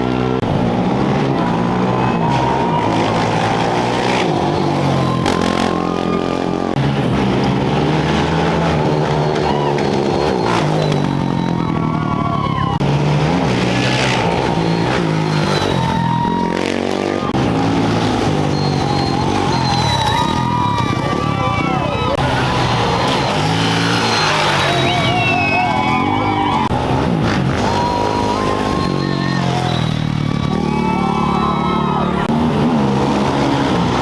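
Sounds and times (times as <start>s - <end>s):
motorcycles revving: 0.0s - 34.0s.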